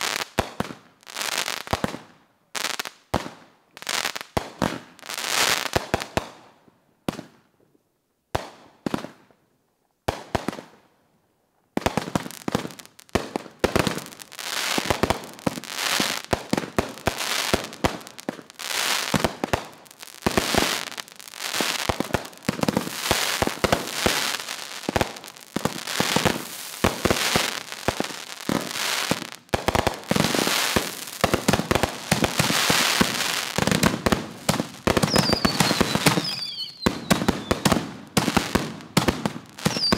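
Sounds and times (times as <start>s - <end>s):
fireworks bangs and bursts: 0.0s - 6.4s, 11.8s - 39.9s.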